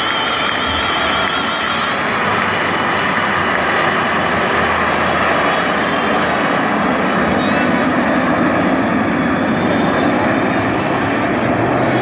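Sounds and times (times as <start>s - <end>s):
jets flying past: 0.0s - 12.0s.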